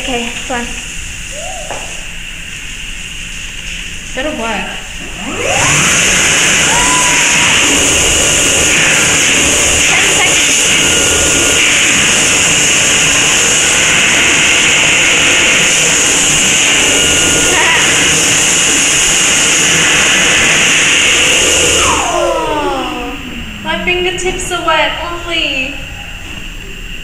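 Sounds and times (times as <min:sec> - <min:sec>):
hand dryer blowing with high whine: 0:00.0 - 0:27.0
motor spinning down: 0:04.8 - 0:26.7.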